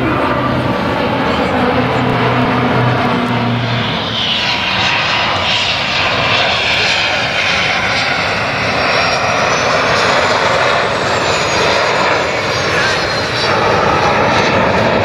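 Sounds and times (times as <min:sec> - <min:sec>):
jet flying past with whine: 0:00.0 - 0:15.0
low propeller hum: 0:00.0 - 0:15.0.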